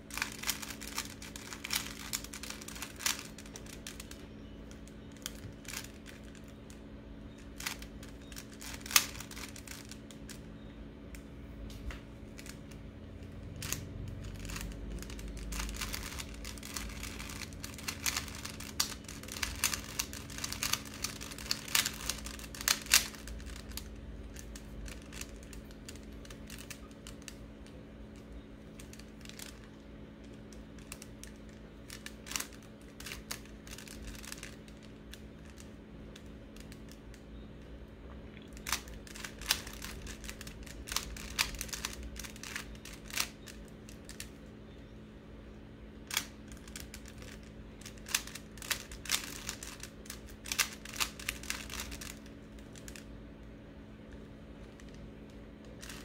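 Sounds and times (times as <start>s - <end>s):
puzzle cube plastic clicking: 0.0s - 6.8s, 7.4s - 10.5s, 11.1s - 37.2s, 38.6s - 44.4s, 46.0s - 53.5s, 54.2s - 56.0s
steady low hum: 0.0s - 56.0s.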